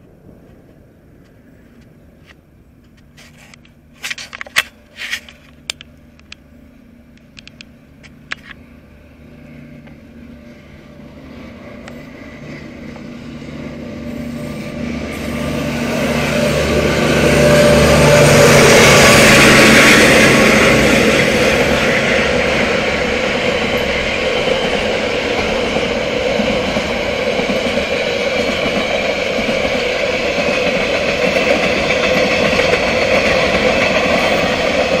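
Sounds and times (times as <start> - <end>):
locomotive engine drone: 0.0 - 35.0
train wheel noise: 0.0 - 35.0.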